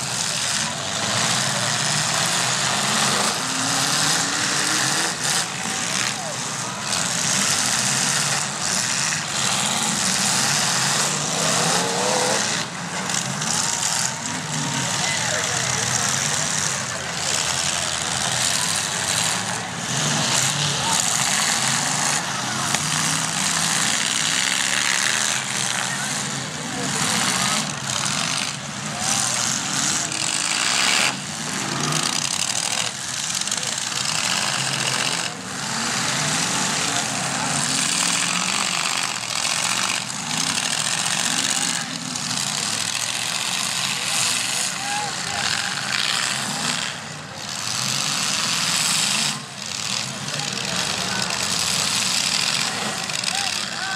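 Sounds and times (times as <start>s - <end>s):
car engines running loudly: 0.0s - 53.9s.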